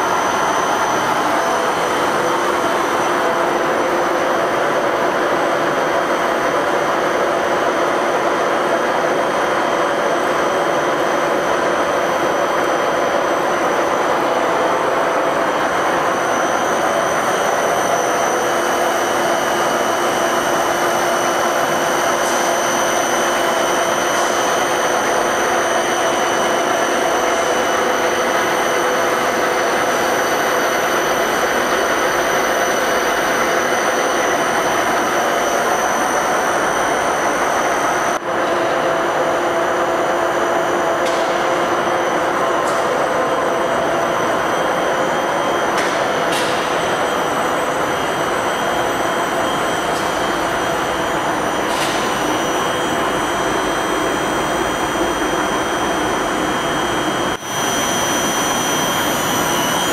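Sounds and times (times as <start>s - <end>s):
heavy machine tool running: 0.0s - 59.9s.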